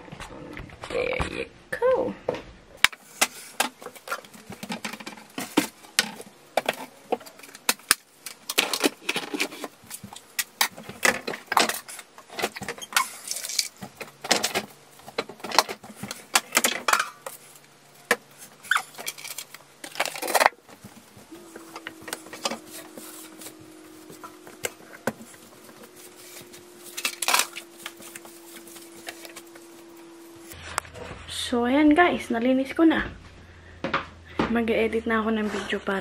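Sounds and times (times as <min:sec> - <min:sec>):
faint low hum: 0:04.0 - 0:36.0.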